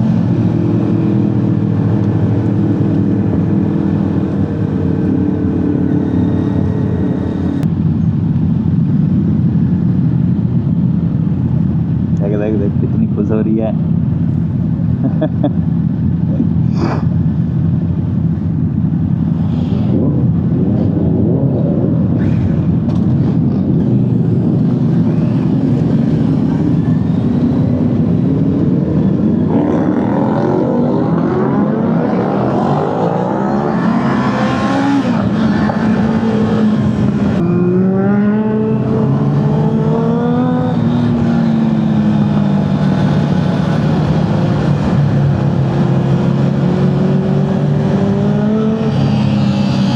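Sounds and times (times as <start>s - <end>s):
motorcycle engine accelerating: 0.0s - 11.1s, 14.8s - 49.9s.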